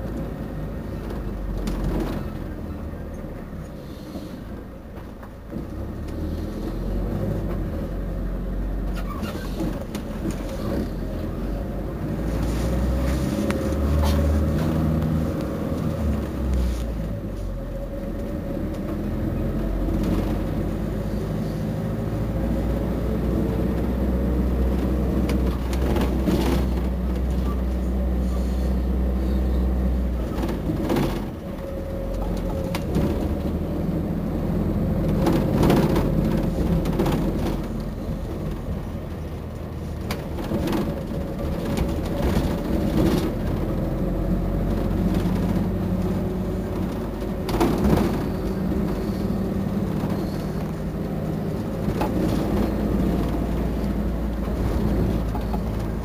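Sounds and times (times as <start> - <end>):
bus engine droning: 0.0 - 56.0
bus rattling and clicking: 0.0 - 56.0.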